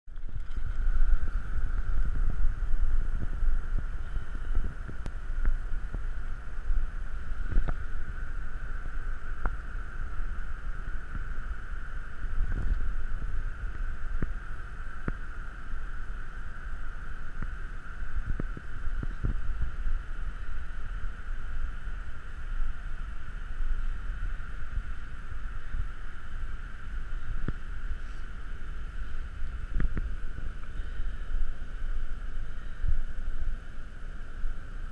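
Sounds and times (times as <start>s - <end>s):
faint high whine: 0.1s - 34.9s
wind rumble: 0.1s - 34.9s.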